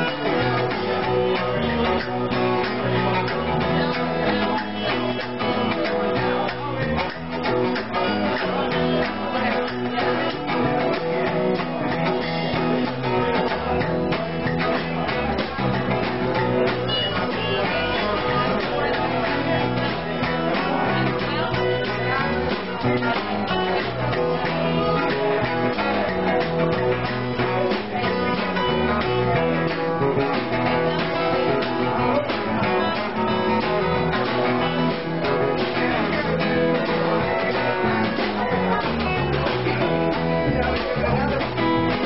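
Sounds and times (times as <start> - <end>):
acoustic guitar strumming: 0.0 - 42.0
drum kit: 0.0 - 42.0
second guitar: 0.0 - 42.0.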